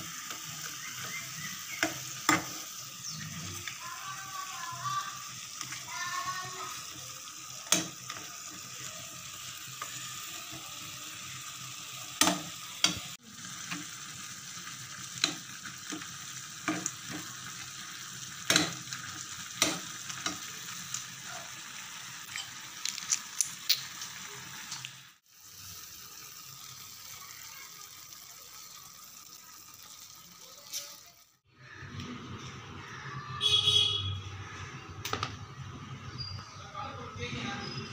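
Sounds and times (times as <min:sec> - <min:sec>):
noodles sizzling in a pan: 0:00.0 - 0:31.8.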